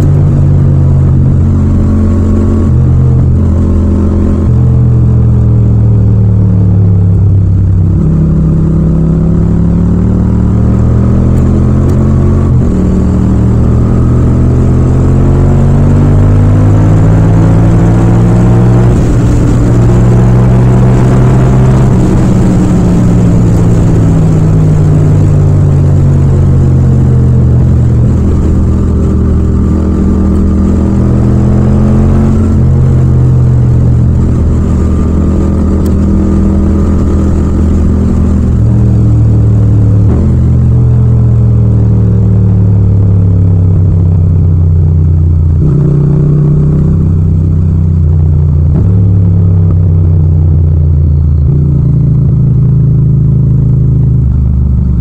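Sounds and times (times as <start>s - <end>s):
motorcycle engine at speed: 0.0s - 55.0s.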